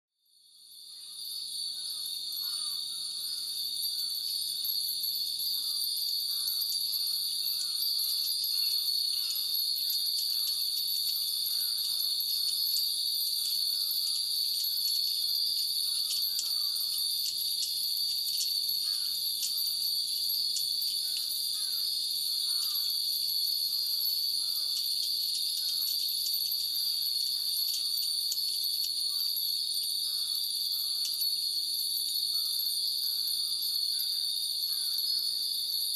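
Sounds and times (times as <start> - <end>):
cicadas droning: 0.5 - 35.9
wind chimes tinkling: 0.8 - 35.9.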